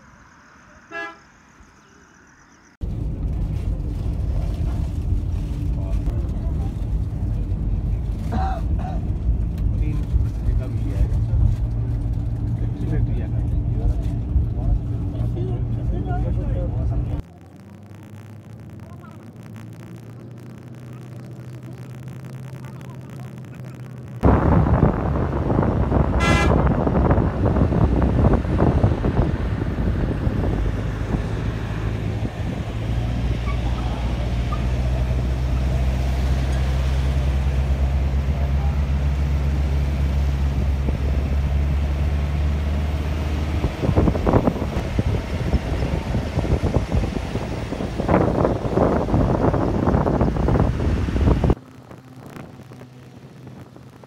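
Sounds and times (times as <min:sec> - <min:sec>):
road and wind noise: 0:00.0 - 0:54.0
vehicle engine hum: 0:00.0 - 0:54.0.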